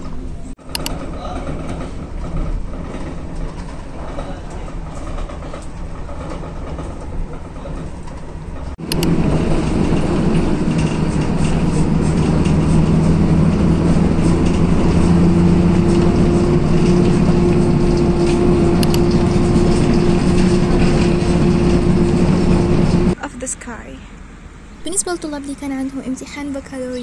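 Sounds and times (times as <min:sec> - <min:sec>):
train rumbling inside carriage: 0:00.0 - 0:27.0.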